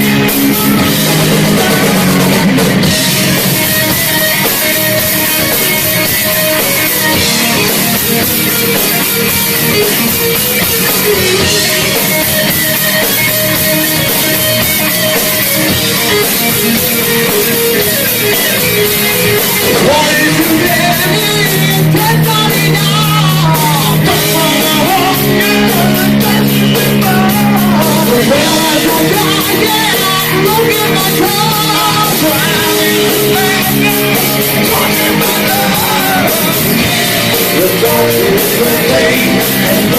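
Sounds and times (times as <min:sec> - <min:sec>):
distorted electric guitars: 0:00.0 - 0:39.9
drums: 0:00.0 - 0:39.9.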